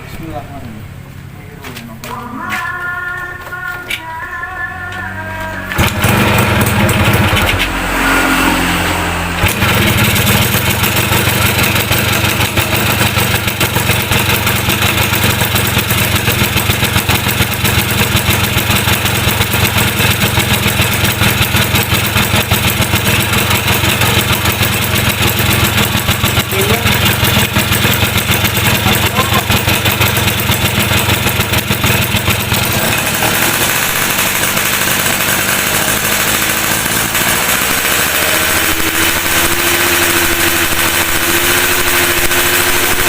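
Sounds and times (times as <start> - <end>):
two-stroke motorcycle engine running: 5.7 - 43.0.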